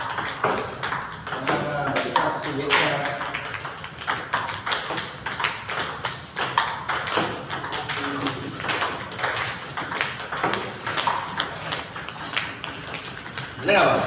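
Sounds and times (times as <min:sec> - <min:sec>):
table tennis balls clicking: 0:00.0 - 0:14.0.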